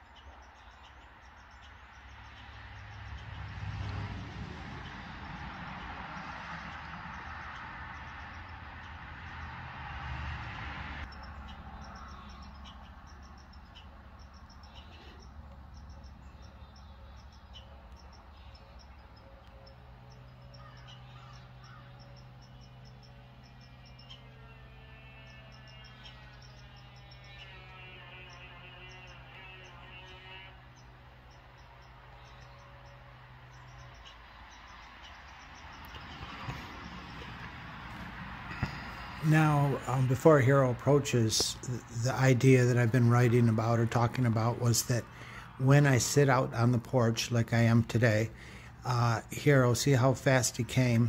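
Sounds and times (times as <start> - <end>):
crickets chirping: 0.0 - 42.4.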